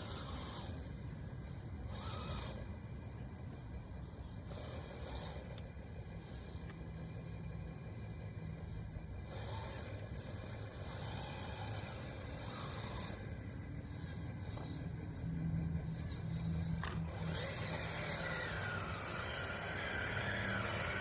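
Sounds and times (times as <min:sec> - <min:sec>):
toy bulldozer motors humming: 0:00.0 - 0:21.0.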